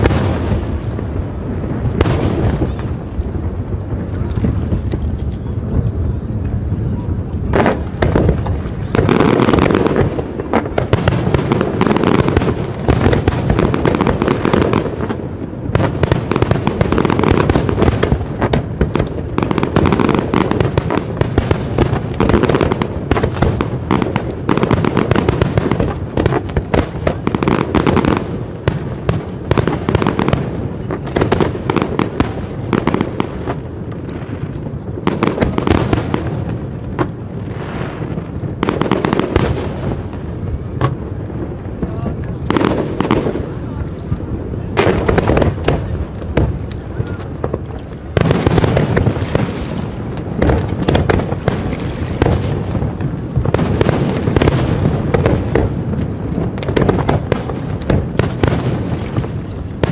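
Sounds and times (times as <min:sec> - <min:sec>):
fireworks bursts and crackling: 0:00.0 - 0:59.9.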